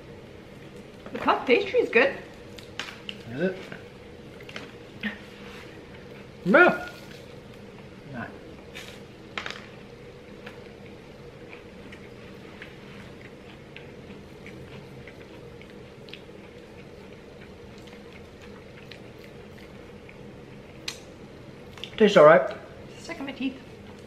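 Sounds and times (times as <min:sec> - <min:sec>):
low room hum: 0:00.0 - 0:24.0
chewing crisp pastry: 0:02.2 - 0:22.6.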